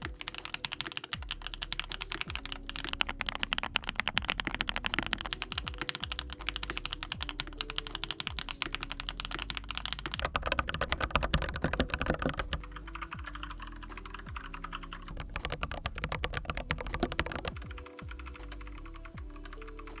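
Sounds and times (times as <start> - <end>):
mechanical keyboard typing: 0.0 - 20.0
soft background music: 0.0 - 20.0.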